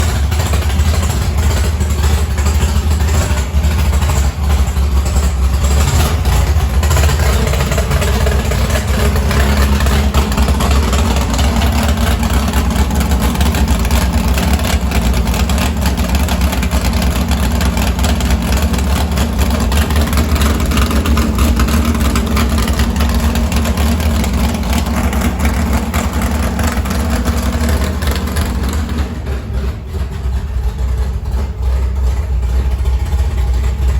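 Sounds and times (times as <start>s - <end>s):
truck engine idling: 0.0s - 33.9s.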